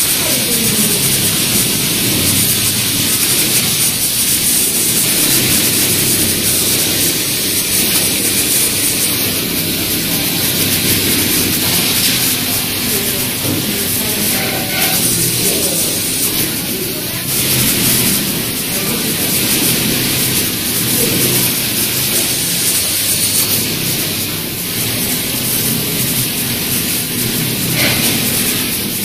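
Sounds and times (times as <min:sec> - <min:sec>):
sewing machine running: 0:00.0 - 0:29.0.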